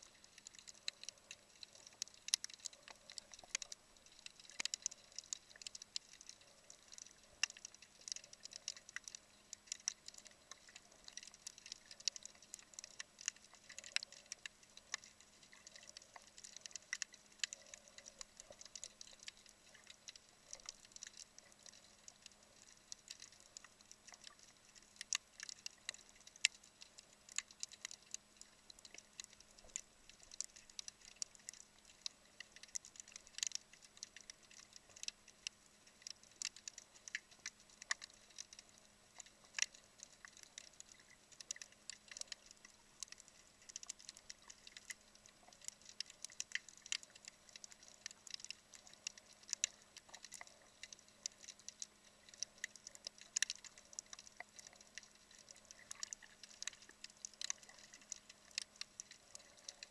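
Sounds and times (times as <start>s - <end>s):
faint steady hum: 0.0s - 59.9s
snapping shrimp clicks: 0.3s - 59.9s.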